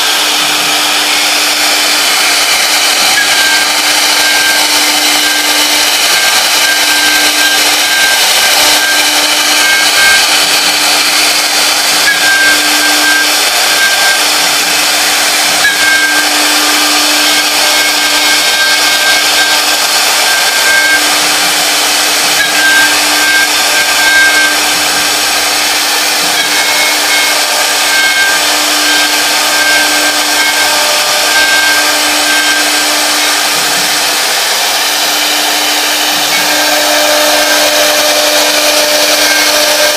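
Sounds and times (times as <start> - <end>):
cnc router spindle noise: 0.0 - 39.9
high cutting tones: 0.0 - 39.9.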